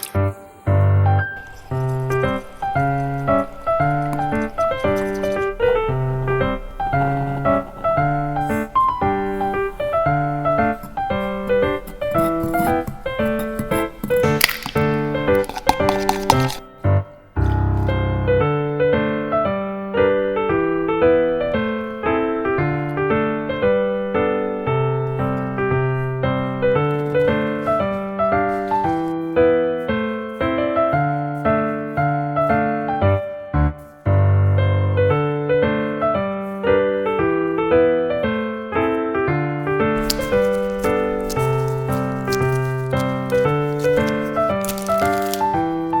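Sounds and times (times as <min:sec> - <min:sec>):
gentle piano music: 0:00.0 - 0:46.0.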